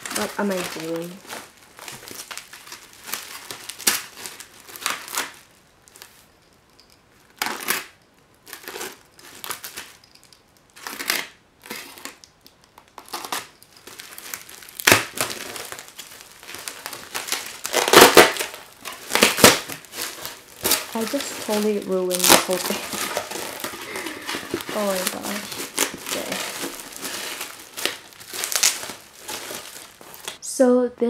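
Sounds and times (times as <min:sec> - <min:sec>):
styrofoam rubbing and crunching: 0:00.0 - 0:06.2, 0:07.4 - 0:10.0, 0:10.8 - 0:12.2, 0:12.9 - 0:30.4
plastic wrap crinkling: 0:00.0 - 0:30.4.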